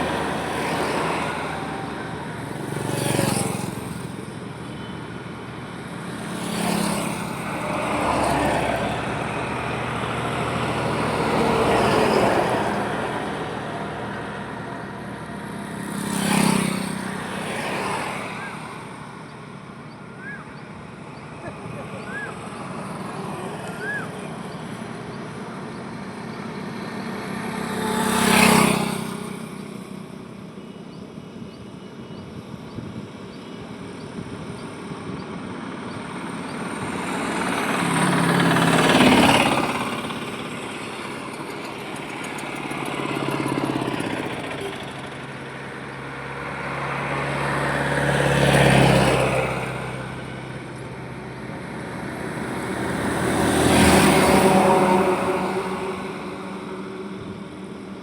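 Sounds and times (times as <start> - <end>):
road rumble: 0.0 - 58.0
vehicles passing: 0.0 - 58.0.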